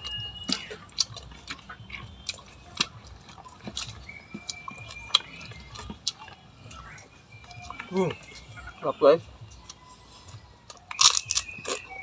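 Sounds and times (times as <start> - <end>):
mouth chewing wetly: 0.0 - 12.0.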